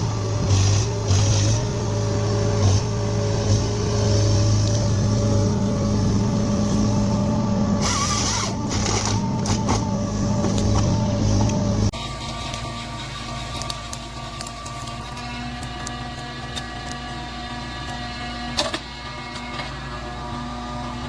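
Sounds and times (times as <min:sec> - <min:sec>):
heavy machine engine running: 0:00.0 - 0:21.0.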